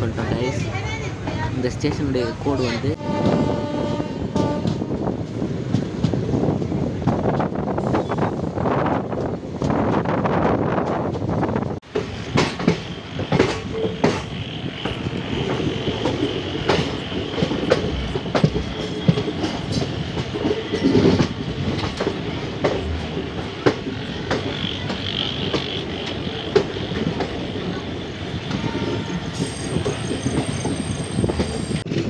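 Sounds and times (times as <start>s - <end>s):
train running noise: 0.0s - 32.0s
train wheels clattering over rail joints: 4.4s - 32.0s.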